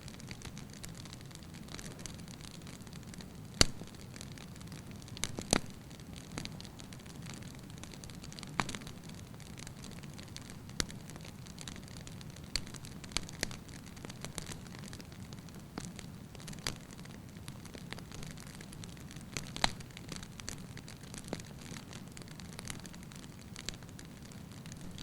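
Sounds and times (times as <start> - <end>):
logs crackling and popping: 0.0 - 25.0
wood fire burning: 0.0 - 25.0.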